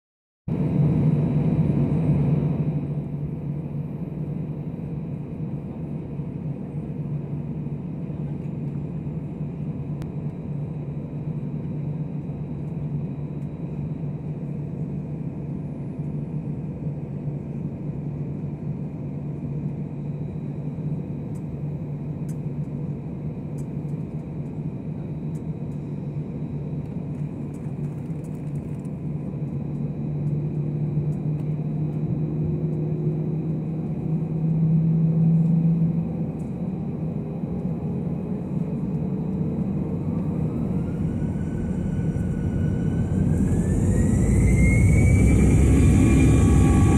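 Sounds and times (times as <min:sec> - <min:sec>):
jet engine drone in cabin: 0:00.5 - 0:46.9.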